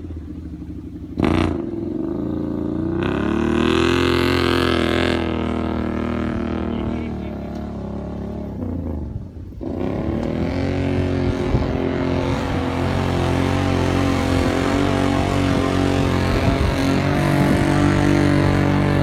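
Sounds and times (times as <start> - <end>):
engine running hard: 0.0 - 19.0.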